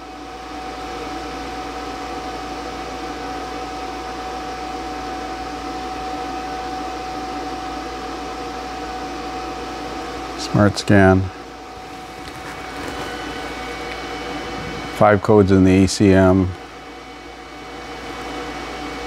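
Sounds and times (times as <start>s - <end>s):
fan-like hum with whine: 0.0s - 19.0s.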